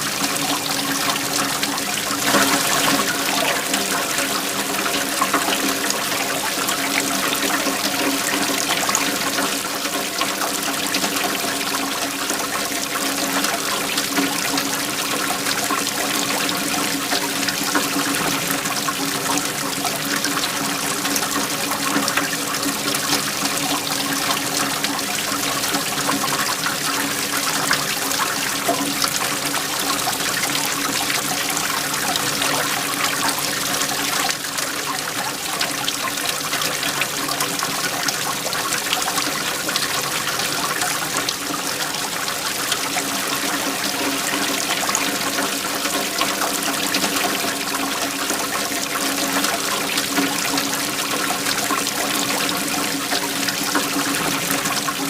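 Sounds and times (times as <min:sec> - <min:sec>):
waterfall splashing: 0:00.0 - 0:55.0.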